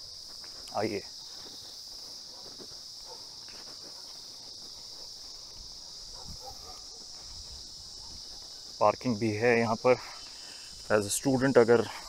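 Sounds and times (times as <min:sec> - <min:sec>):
footsteps on paved path: 0:00.0 - 0:12.0
insect chorus: 0:00.0 - 0:12.0.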